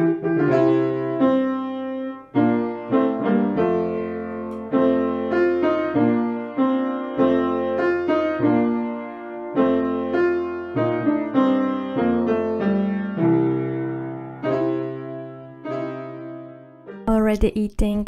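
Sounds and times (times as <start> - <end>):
slow piano music: 0.0 - 17.1.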